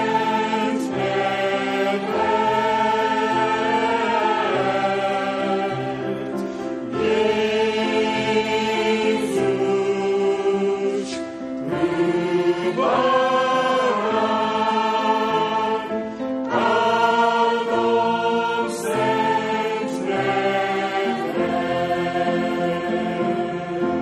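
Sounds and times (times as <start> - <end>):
church choir singing a round: 0.0 - 24.0.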